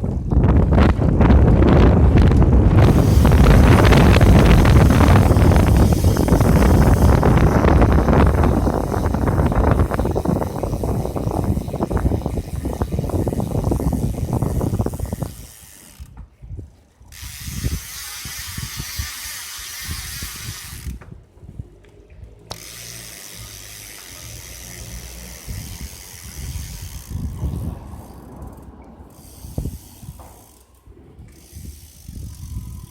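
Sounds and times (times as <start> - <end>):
bicycle hub ratcheting clicks: 2.2 - 16.4, 17.1 - 21.2, 22.4 - 32.9.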